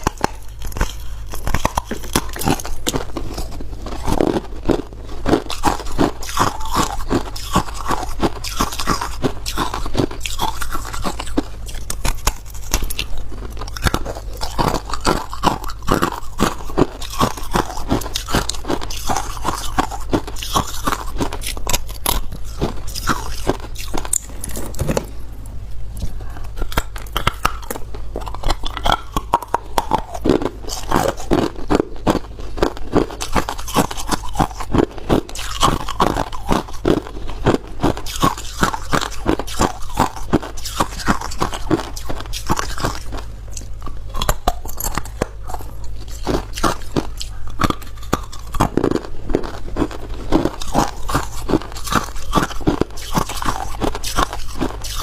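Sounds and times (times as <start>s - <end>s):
ice being chewed: 0.0s - 25.2s, 25.9s - 55.0s.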